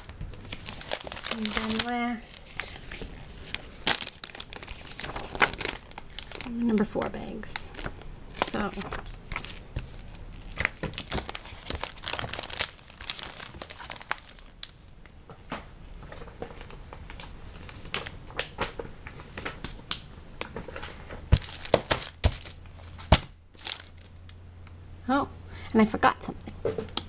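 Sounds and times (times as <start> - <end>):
plastic bags crinkling: 0.0 - 14.8, 16.1 - 24.4.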